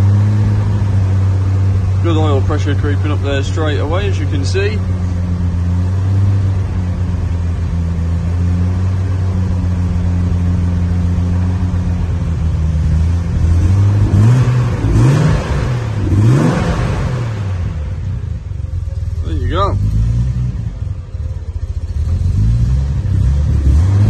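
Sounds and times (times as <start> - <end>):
car engine idling fast: 0.0 - 24.0
car engine revving: 0.0 - 24.0.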